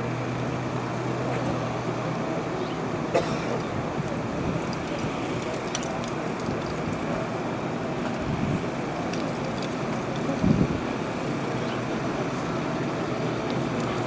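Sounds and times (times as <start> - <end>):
traffic and car engines: 0.0 - 14.0.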